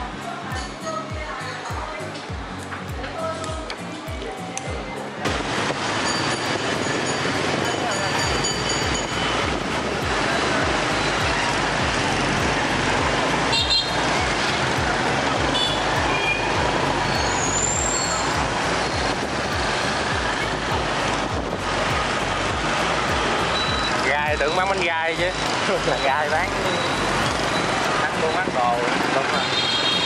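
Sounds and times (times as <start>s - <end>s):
motorbike engines and road noise: 0.0s - 30.0s.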